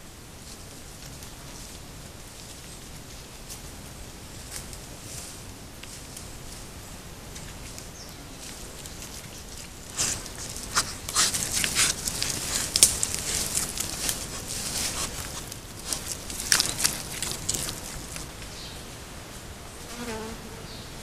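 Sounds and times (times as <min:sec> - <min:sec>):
piglets rooting in leaf litter: 0:00.4 - 0:18.8.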